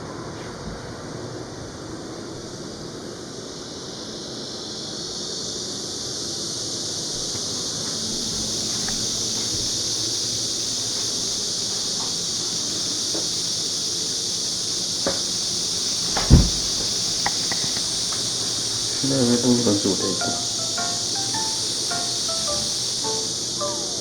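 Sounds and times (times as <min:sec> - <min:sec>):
high-pitched insect chorus: 0:01.7 - 0:24.0.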